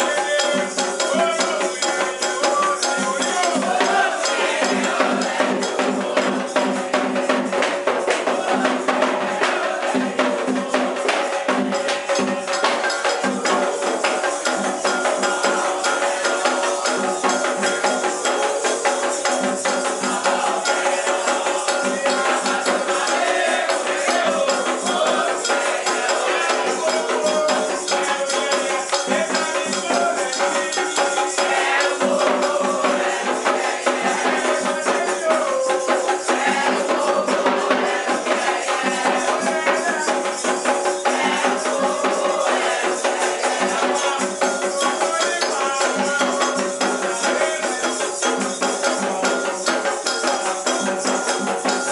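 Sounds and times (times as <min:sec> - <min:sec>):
dense percussion: 0:00.0 - 0:51.9
voices singing chants: 0:00.0 - 0:51.9.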